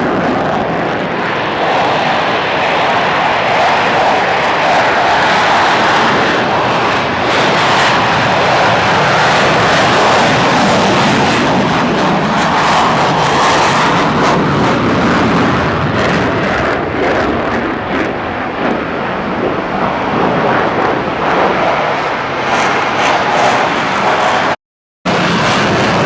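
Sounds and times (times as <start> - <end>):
fighter jet engine roaring: 0.0 - 26.0.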